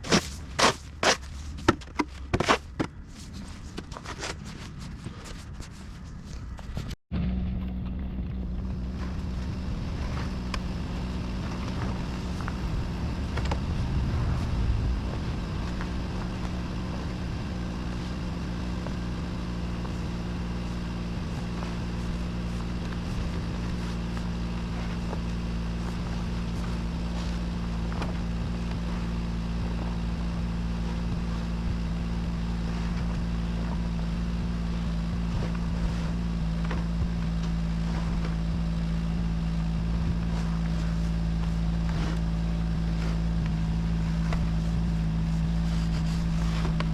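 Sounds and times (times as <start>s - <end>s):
engine droning: 0.0s - 46.9s.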